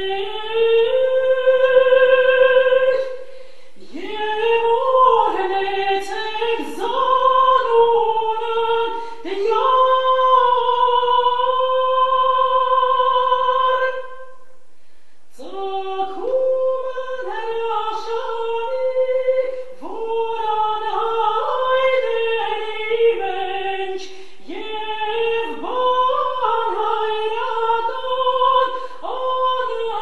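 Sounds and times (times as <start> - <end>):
woman singing a church chant: 0.0 - 14.6, 15.3 - 30.0.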